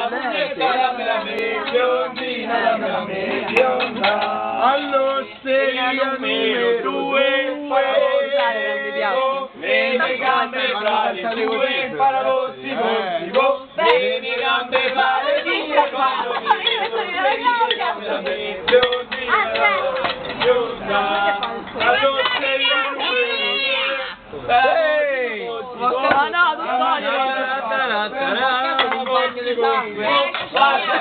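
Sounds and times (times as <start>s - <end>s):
group singing together: 0.0s - 31.0s
people talking: 0.0s - 31.0s.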